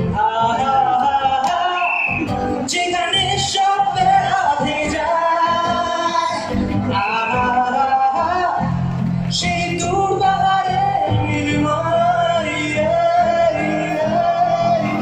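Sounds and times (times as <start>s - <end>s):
acoustic guitar: 0.0s - 15.0s
man singing: 0.0s - 15.0s.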